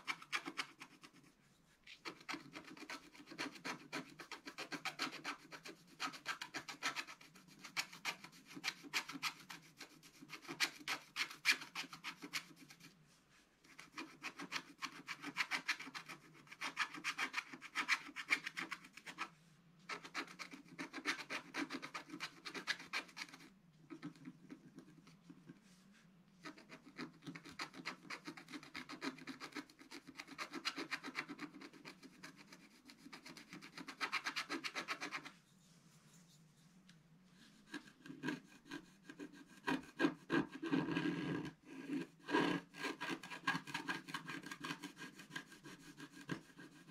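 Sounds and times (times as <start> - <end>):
stylus scratching paper: 0.0 - 13.0, 13.6 - 25.8, 26.4 - 36.4, 37.3 - 46.9.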